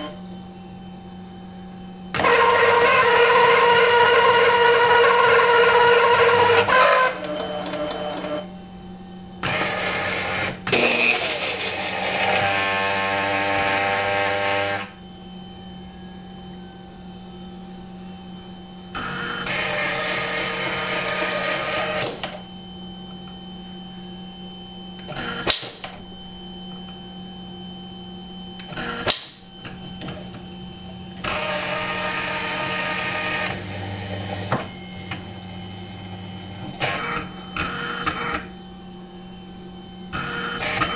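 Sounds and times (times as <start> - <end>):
motor whine: 0.0 - 40.9
steady electrical hum: 0.0 - 40.9.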